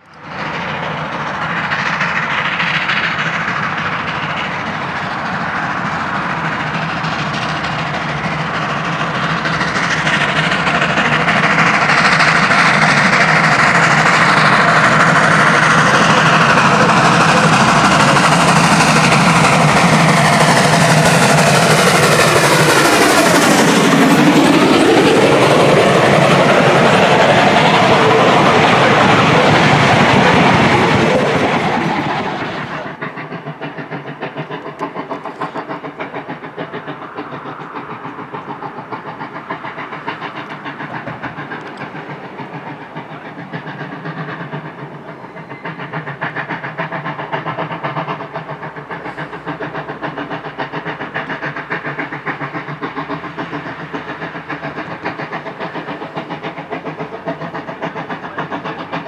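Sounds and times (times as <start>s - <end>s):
steam locomotive exhaust beats: 0.0s - 59.0s
train wheels clattering over rail joints: 0.0s - 59.0s.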